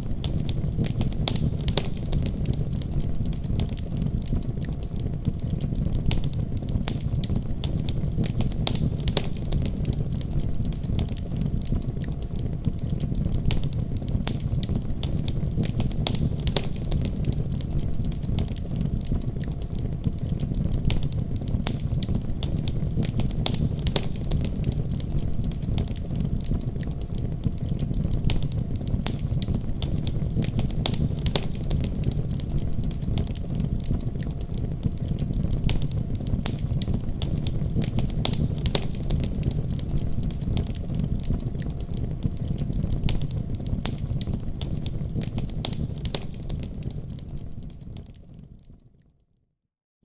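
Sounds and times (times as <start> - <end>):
fire crackling in fireplace: 0.0 - 49.2.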